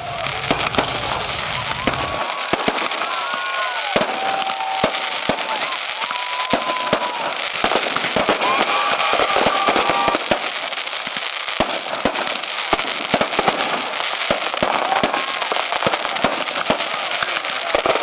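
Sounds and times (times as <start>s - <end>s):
fireworks crackling and banging: 0.0s - 18.0s.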